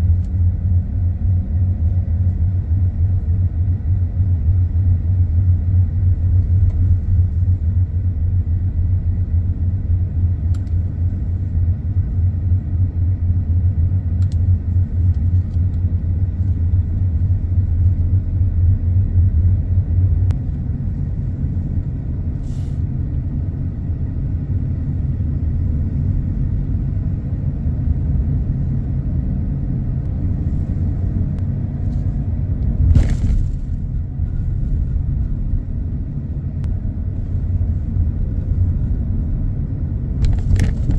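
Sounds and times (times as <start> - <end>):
car tyres and engine rumble: 0.0 - 40.9.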